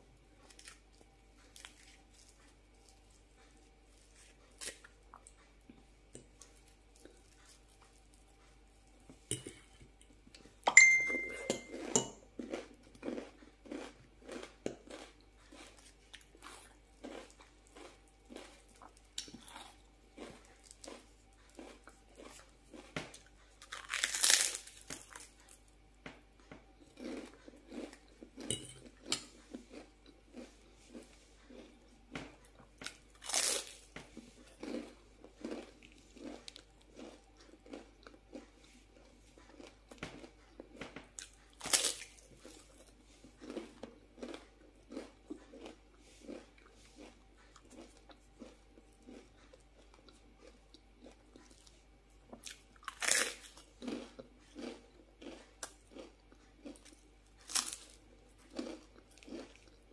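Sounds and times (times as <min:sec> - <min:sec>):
crisp crunching chewing: 0:00.4 - 0:10.5, 0:11.7 - 0:25.7, 0:26.8 - 0:59.9.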